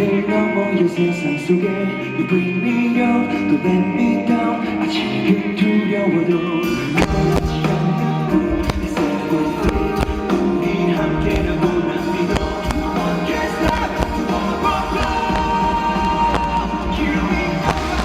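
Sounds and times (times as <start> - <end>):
loud live rock band: 0.0 - 18.0.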